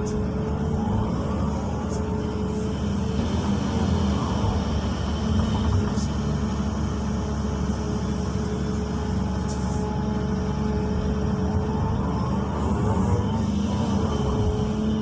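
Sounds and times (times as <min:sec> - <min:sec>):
excavator engine humming: 0:00.0 - 0:15.0
hydraulic whine: 0:00.0 - 0:15.0.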